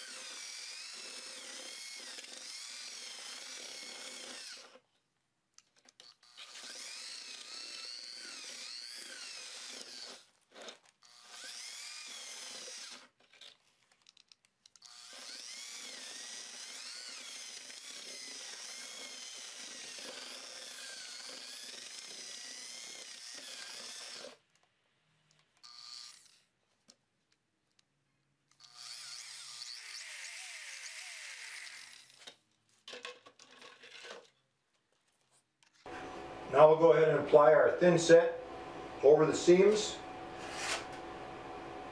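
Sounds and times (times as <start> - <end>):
power drill mixing mortar: 0.0 - 4.9, 5.8 - 24.6, 25.6 - 26.6, 28.5 - 34.4, 35.8 - 41.9.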